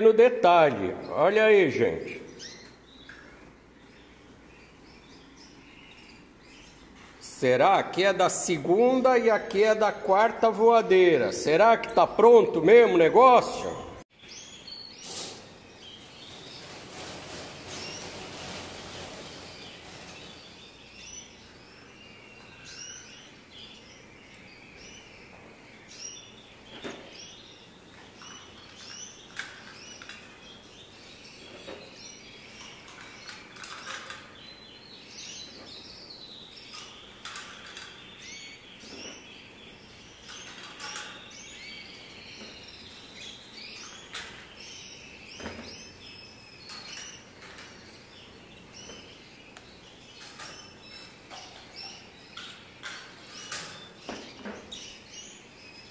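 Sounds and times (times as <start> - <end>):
canaries chirping: 0.0 - 55.9.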